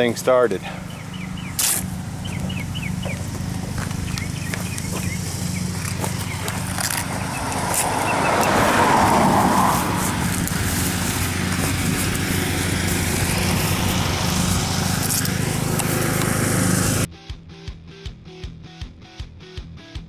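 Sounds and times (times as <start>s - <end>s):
engine running steadily: 0.0s - 17.1s.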